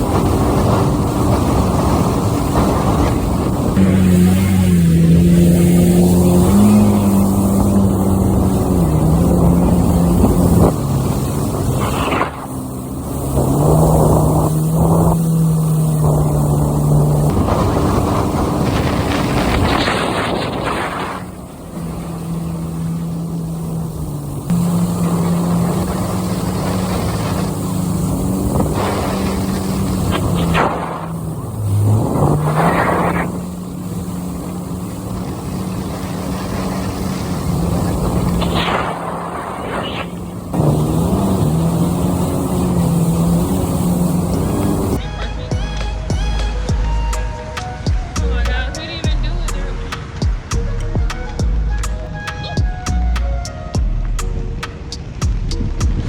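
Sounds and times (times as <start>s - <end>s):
rushing surges of noise: 0.0s - 56.0s
watercraft engine running: 0.0s - 56.0s.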